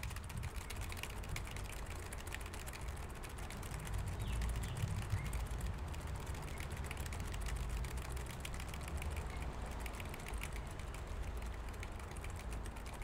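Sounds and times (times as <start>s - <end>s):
faint irregular ticking: 0.0s - 13.0s.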